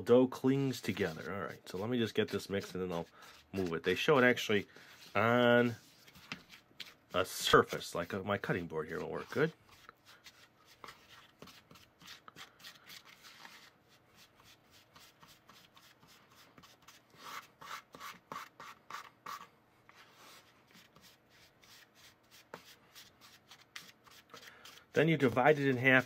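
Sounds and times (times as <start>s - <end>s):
plastic spoon scraping dough in bowl: 0.6s - 26.0s.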